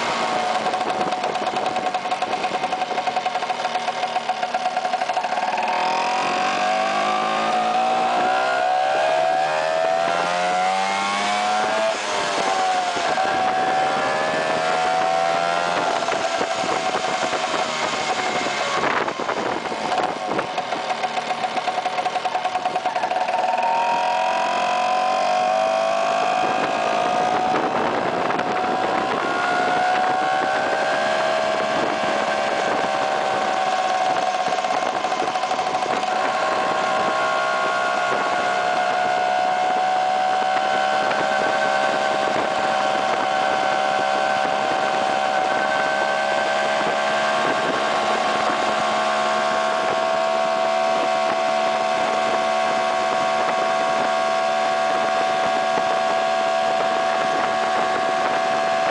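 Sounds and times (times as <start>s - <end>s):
scooter engine accelerating: 0.0s - 58.9s.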